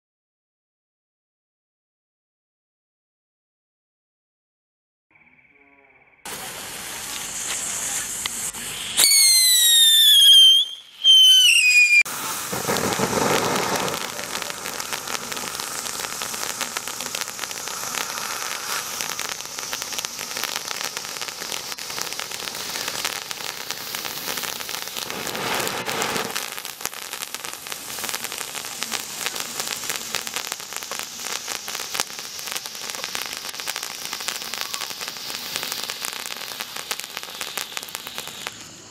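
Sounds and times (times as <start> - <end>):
firework whistles: 6.2 - 38.9
firework hissing sparks: 6.3 - 38.9.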